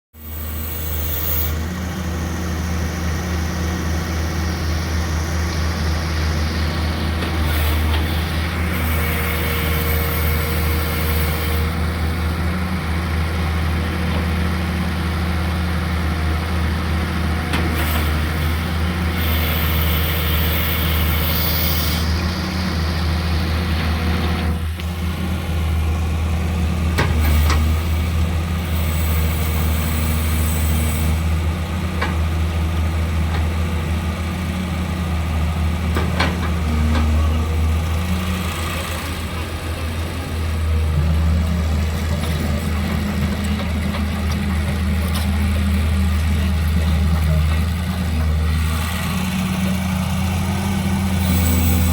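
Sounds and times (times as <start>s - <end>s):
excavator diesel engine running: 0.2s - 51.9s.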